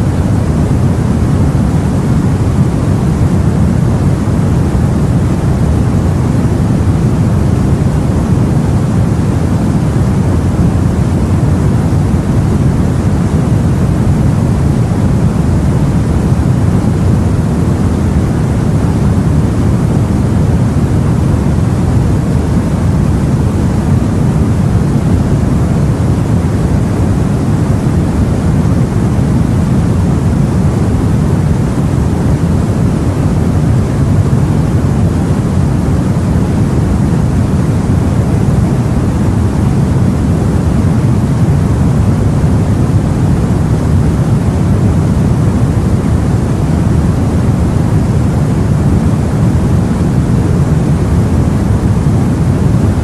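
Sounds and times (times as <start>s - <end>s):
sea and wind rumbling: 0.0s - 53.0s.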